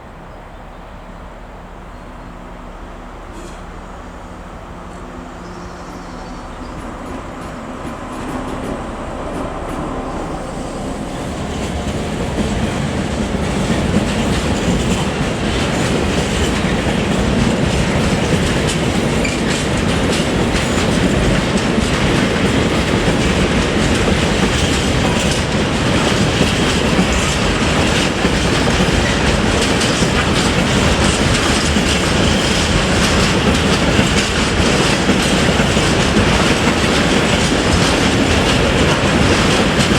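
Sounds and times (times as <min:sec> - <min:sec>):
train wheels clattering on rails: 0:05.0 - 0:39.9.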